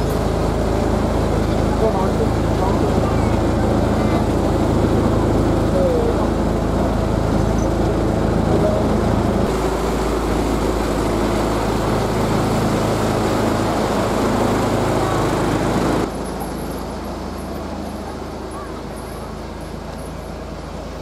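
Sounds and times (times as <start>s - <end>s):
railcar engine running: 0.0s - 21.0s.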